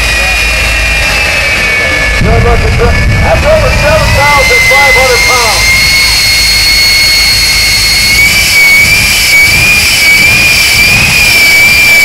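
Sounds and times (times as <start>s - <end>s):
jet turbine whine: 0.0s - 12.0s
low rumble: 0.0s - 12.0s.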